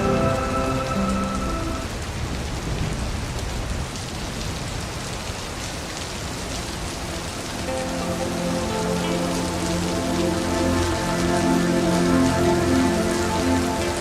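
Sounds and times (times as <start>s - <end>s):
rain falling into a puddle: 0.0s - 14.0s.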